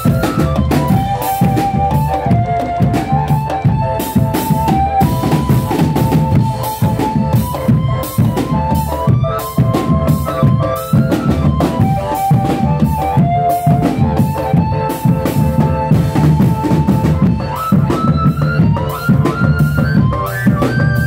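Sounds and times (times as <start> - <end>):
marching snare and bass drums: 0.0 - 21.0
melody of held notes: 0.0 - 21.0.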